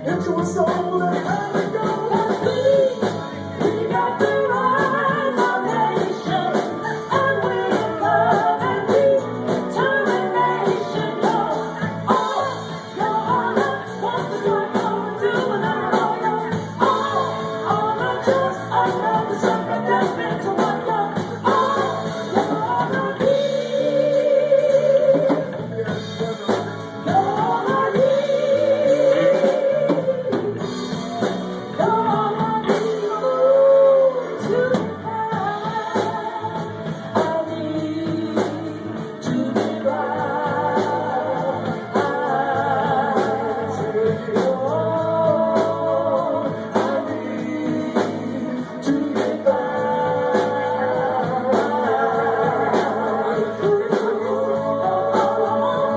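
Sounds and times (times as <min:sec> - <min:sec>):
steady drum beat: 0:00.0 - 0:55.9.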